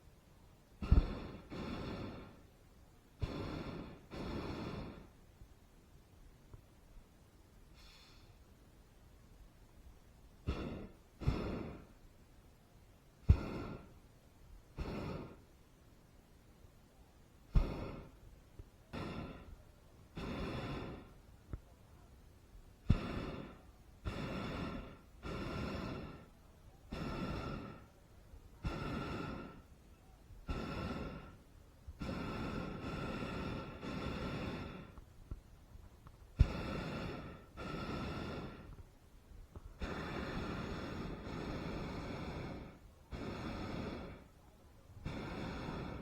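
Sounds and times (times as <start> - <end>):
propane burner blasts: 0.0 - 5.4, 7.6 - 8.6, 9.7 - 15.6, 17.4 - 46.0.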